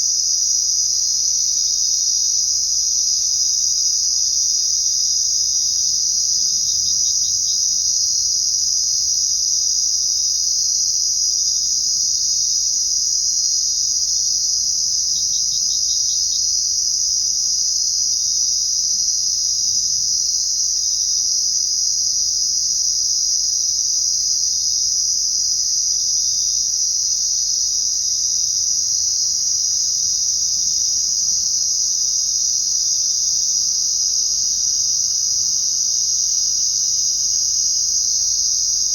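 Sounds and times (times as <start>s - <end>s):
crickets chirring: 0.0s - 38.9s
insect pulsed trill: 0.0s - 38.9s.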